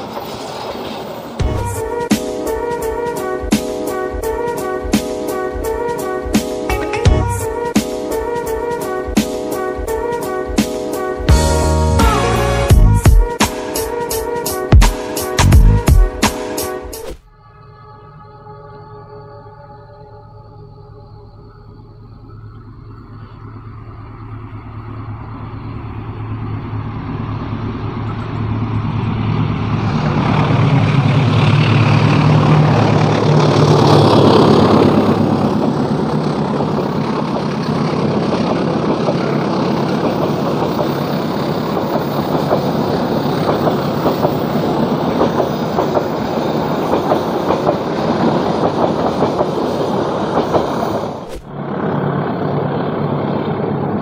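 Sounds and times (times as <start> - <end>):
train coaches rumbling over bridge: 0.0 - 17.0, 22.9 - 54.0
locomotive engine hum: 0.0 - 54.0.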